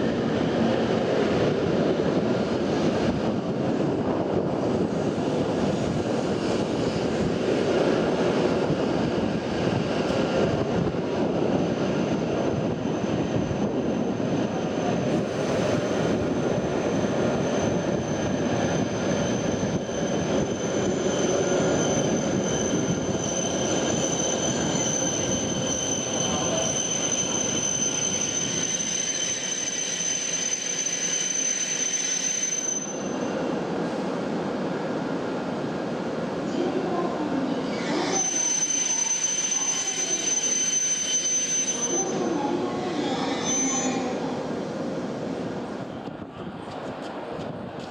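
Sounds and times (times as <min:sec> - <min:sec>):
train rushing noise: 0:00.0 - 0:47.9.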